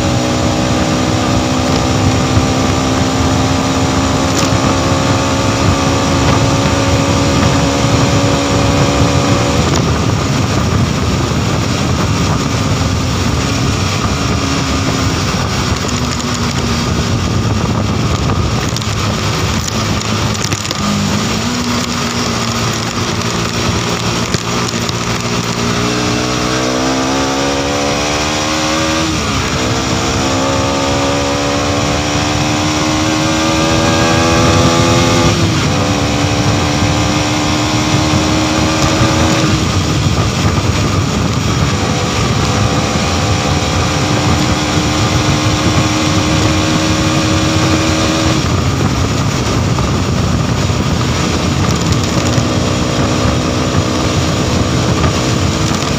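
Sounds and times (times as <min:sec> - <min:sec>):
motorcycle engine accelerating: 0:00.0 - 0:55.9
wind rush on microphone: 0:00.0 - 0:55.9.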